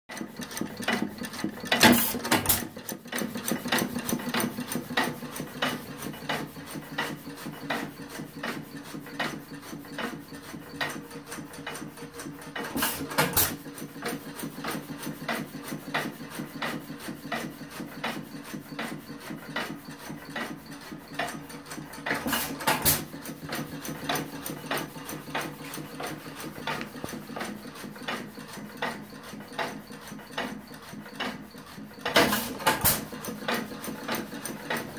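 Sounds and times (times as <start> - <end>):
engine mechanism clicking: 0.1 - 34.9.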